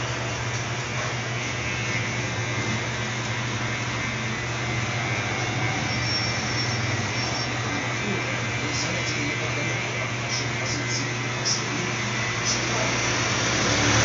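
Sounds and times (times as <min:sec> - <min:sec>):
electric hair clipper buzzing: 0:00.0 - 0:14.0.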